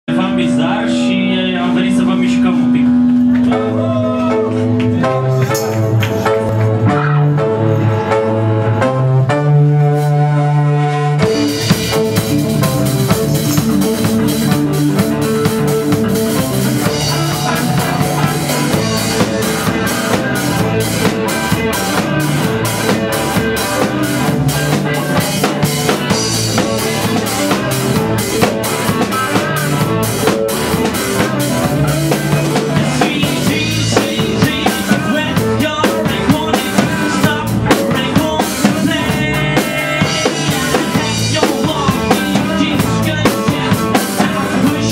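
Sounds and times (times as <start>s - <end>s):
rock band playing: 0.1s - 44.9s
drum kit beat: 2.0s - 10.4s, 11.2s - 44.9s.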